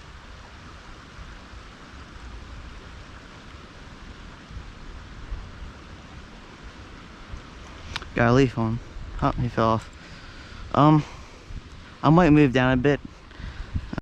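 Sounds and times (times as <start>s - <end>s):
creek water flowing: 0.0s - 14.0s
wind rumbling on microphone: 0.0s - 14.0s.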